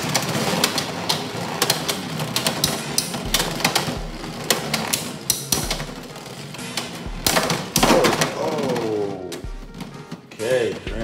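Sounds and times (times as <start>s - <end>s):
spinning tops clicking and clacking: 0.0s - 10.4s
spinning tops whirring on plastic: 0.0s - 10.9s.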